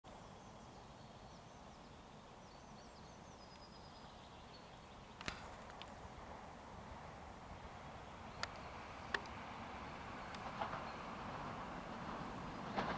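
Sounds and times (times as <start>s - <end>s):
faint outdoor hiss: 0.1s - 12.7s.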